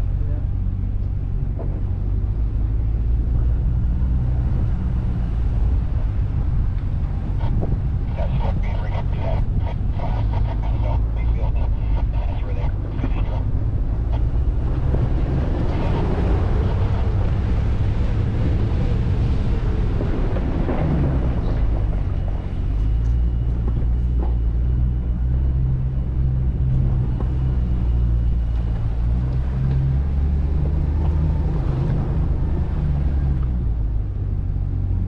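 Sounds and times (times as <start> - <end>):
vehicle engine rumble: 0.0 - 35.0.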